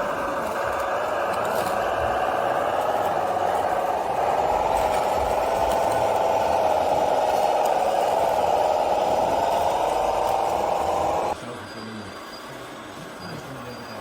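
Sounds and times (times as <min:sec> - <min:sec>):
small electric motor whining: 0:00.0 - 0:11.4.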